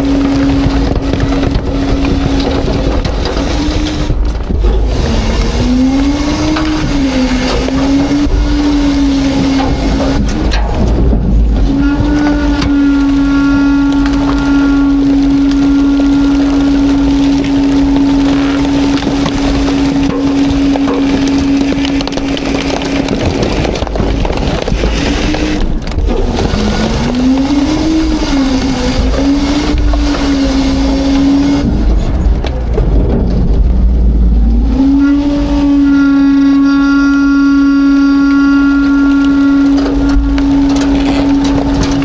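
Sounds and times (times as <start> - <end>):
garbage truck machine whine: 0.0 - 42.0
heavy low rumble: 0.0 - 42.0
trash crackling: 0.0 - 42.0.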